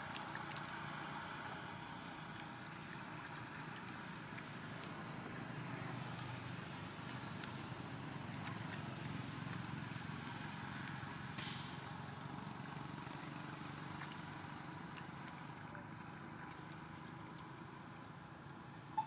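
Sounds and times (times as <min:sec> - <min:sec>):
light splashing in puddle: 0:00.0 - 0:18.6
outdoor background rumble: 0:00.0 - 0:19.0.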